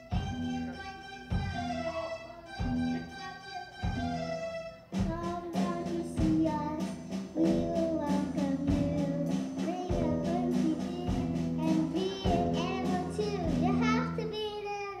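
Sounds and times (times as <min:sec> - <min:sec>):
rock band playing: 0:00.0 - 0:14.9
girl singing: 0:00.1 - 0:15.0.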